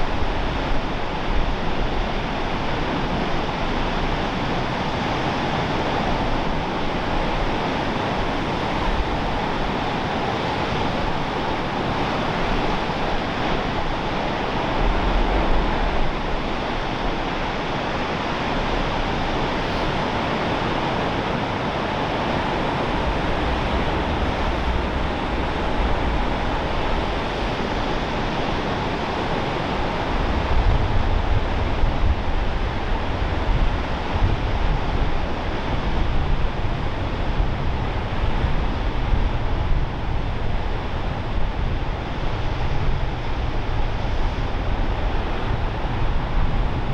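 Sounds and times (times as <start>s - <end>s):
ocean surf rushing: 0.0s - 46.9s
wind: 0.0s - 46.9s
wind buffeting microphone: 0.0s - 46.9s.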